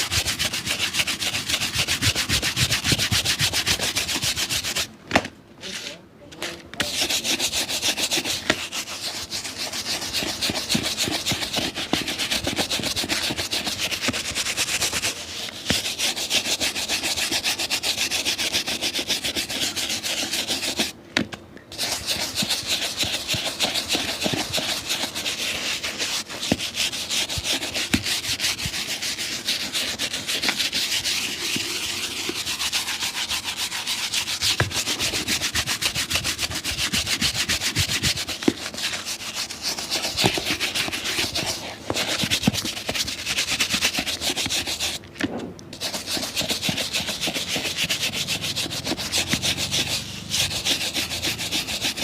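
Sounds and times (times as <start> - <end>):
shoe being rubbed by hand: 0.0 - 4.9, 6.8 - 21.0, 21.7 - 45.0, 45.8 - 52.0.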